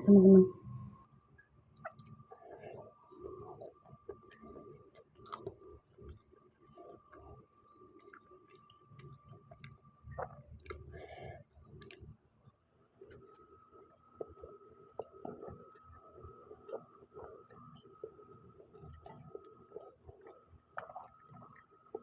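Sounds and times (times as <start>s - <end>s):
chewing noodles: 1.8s - 13.6s, 14.2s - 22.0s.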